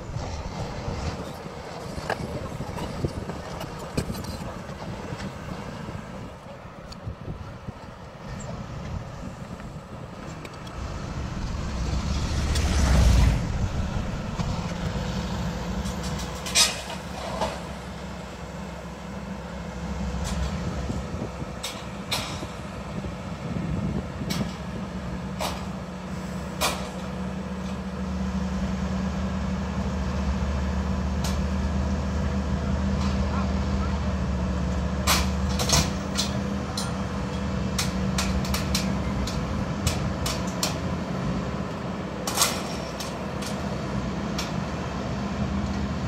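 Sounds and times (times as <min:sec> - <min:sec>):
excavator diesel engine under load: 0:00.0 - 0:46.0.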